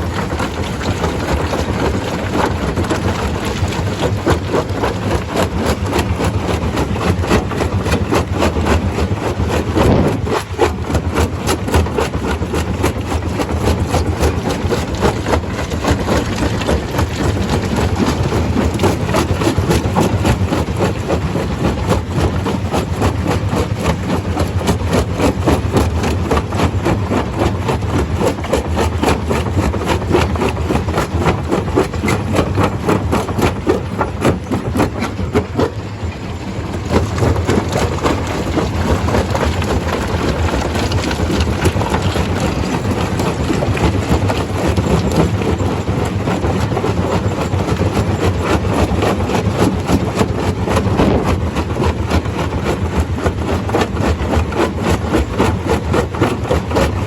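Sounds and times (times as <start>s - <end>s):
stone crusher running: 0.0s - 57.0s.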